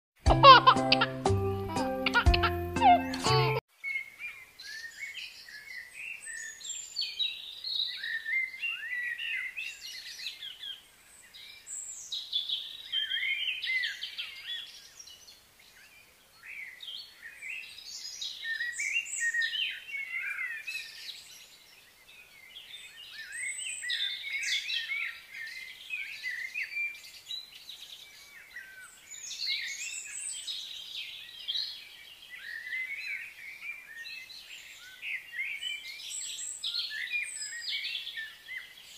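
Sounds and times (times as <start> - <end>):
birds chirping and singing: 0.4 - 38.9.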